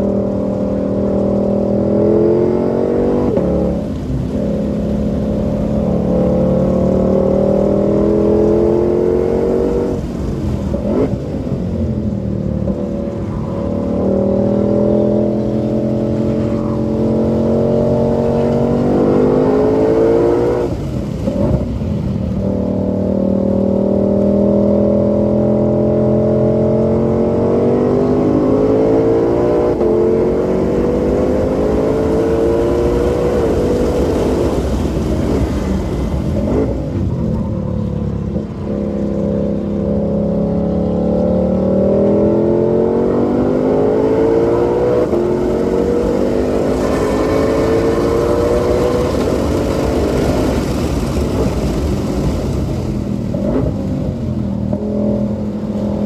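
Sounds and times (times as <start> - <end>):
car engine revving at full throttle: 0.0 - 56.0.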